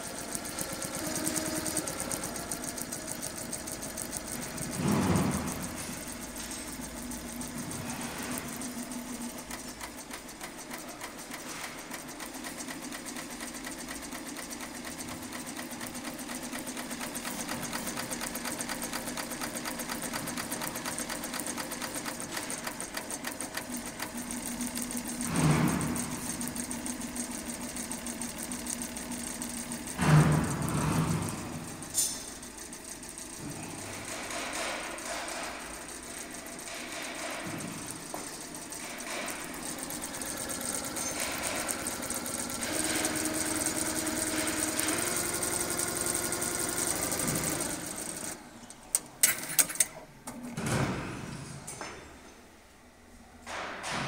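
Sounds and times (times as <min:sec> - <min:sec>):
embroidery machine stitching: 0:00.0 - 0:50.9.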